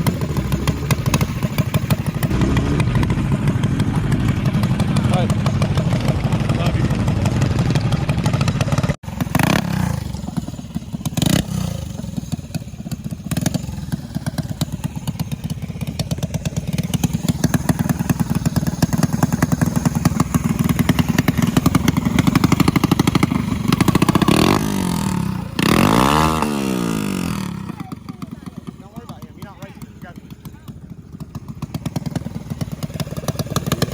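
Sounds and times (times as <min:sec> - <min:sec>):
motorbike engine accelerating: 0:00.0 - 0:33.9.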